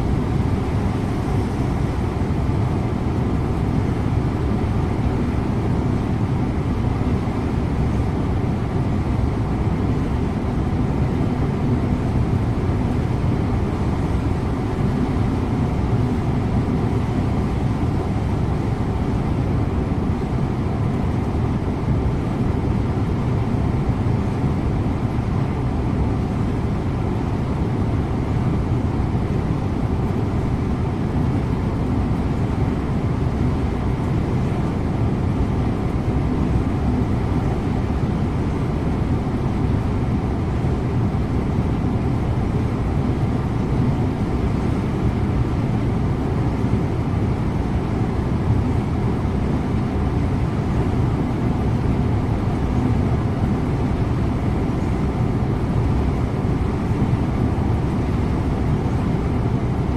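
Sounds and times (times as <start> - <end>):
bus engine and tyre rumble: 0.0 - 59.9.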